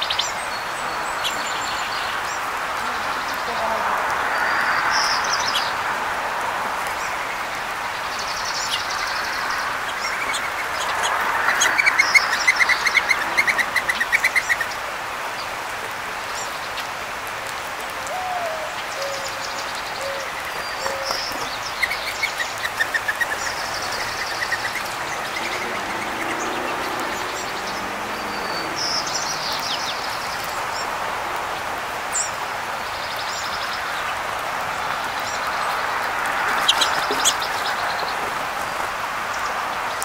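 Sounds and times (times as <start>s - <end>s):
songbirds singing and calling: 0.0s - 40.0s.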